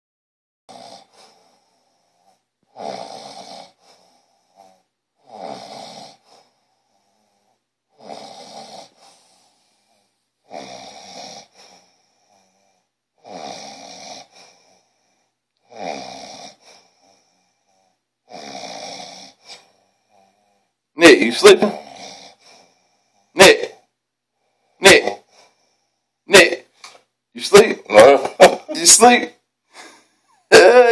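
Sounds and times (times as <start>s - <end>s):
man snoring: 0.7s - 23.9s, 24.8s - 25.6s, 27.5s - 30.9s.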